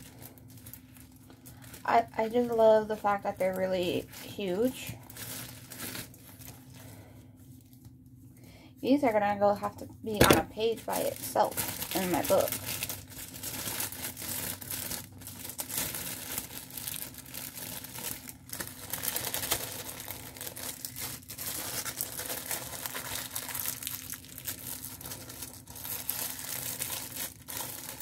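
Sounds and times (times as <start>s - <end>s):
plastic wrapping crinkling: 0.0s - 8.0s, 9.6s - 28.0s.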